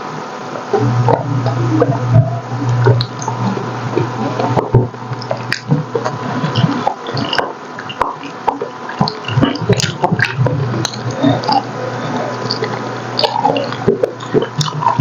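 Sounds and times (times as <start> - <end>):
low hum: 0.0 - 15.0
wet chewing and lip-smacking: 1.1 - 15.0.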